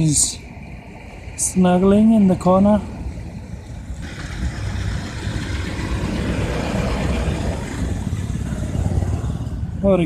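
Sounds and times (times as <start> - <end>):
traffic rumble with tyre noise: 0.0 - 10.0.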